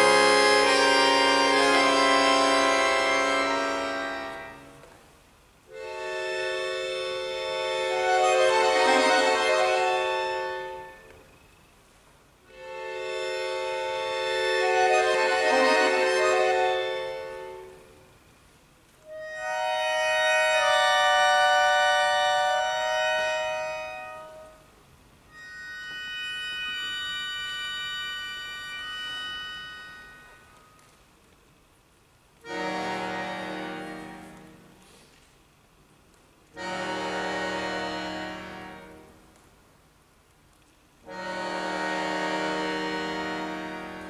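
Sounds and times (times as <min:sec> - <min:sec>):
accordion sustained chords: 0:00.0 - 0:11.4, 0:12.4 - 0:18.3, 0:19.0 - 0:31.3, 0:32.4 - 0:35.2, 0:36.4 - 0:39.8, 0:41.0 - 0:44.0.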